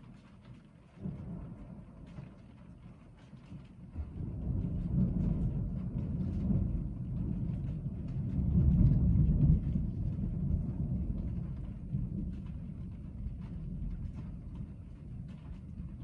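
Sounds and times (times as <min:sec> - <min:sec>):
raindrops ticking on car: 0:00.0 - 0:16.0
thunder rolling: 0:01.0 - 0:02.8, 0:03.8 - 0:16.0.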